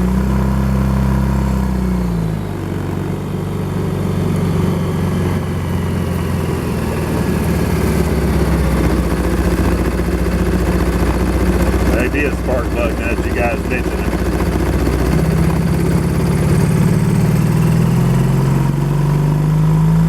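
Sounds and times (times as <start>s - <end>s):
engine running with skipping note: 0.0s - 20.0s.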